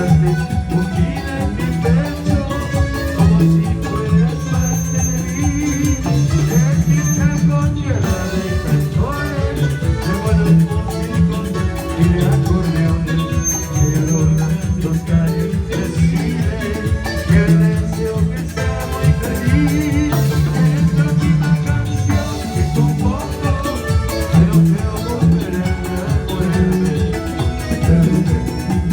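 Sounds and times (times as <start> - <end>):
guitar: 0.0 - 28.9
live band playing latin dance music: 0.0 - 28.9
steady drum beat: 0.0 - 28.9.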